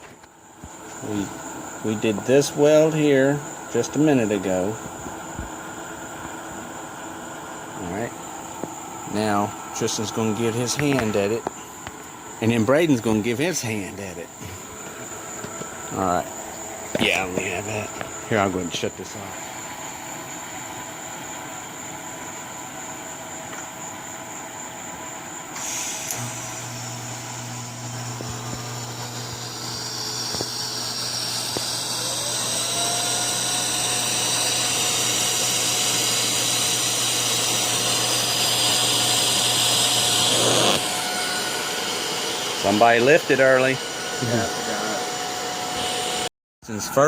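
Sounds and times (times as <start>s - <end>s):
faint high whine: 0.0s - 47.0s
welding arc humming and hissing: 0.4s - 46.3s.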